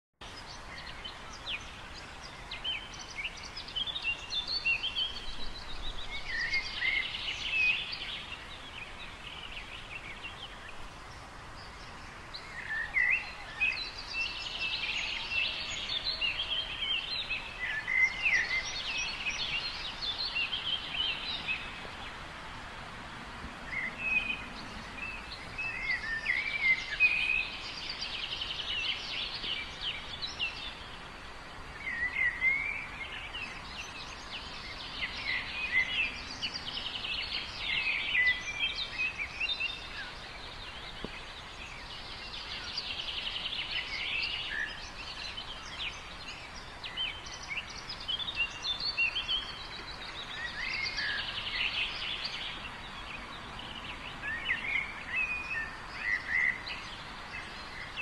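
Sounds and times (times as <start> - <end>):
steady outdoor hiss: 0.2 - 58.0.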